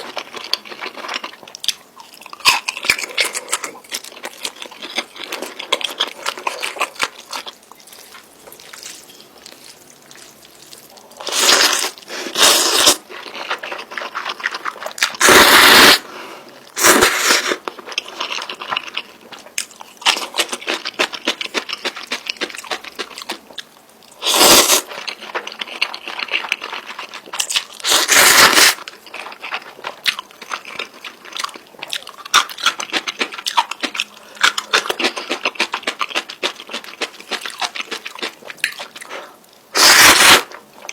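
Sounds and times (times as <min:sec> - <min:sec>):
wet chewing: 0:00.0 - 0:15.6, 0:16.8 - 0:40.9.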